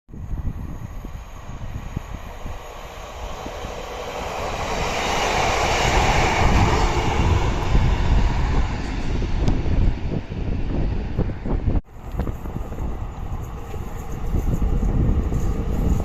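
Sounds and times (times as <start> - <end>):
train running on rails: 0.1 - 16.0.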